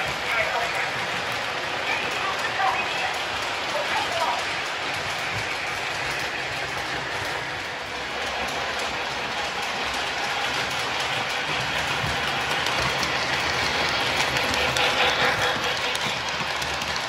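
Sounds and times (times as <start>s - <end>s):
toy train wheels rumbling: 0.0s - 17.0s.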